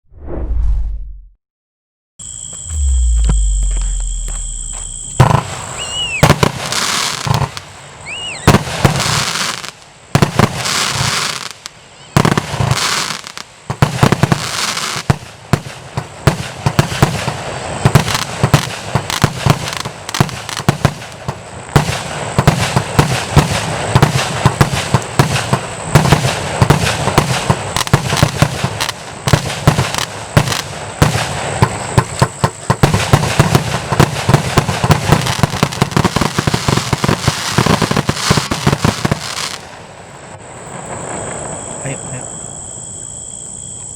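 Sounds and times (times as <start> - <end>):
firework whistles: 2.2 - 43.9
firework bangs and crackles: 2.7 - 42.2
firework hissing bursts: 4.4 - 41.7.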